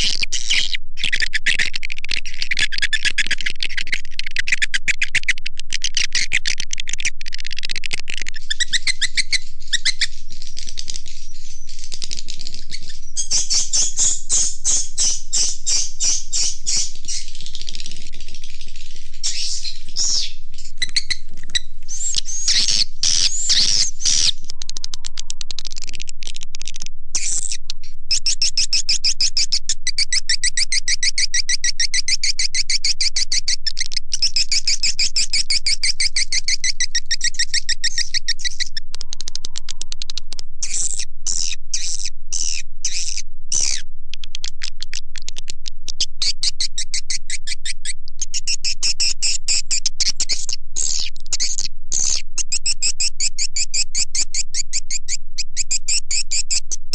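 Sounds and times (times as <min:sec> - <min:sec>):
swiftlets twittering and chirping: 0:02.6 - 0:43.8, 0:45.9 - 0:56.6.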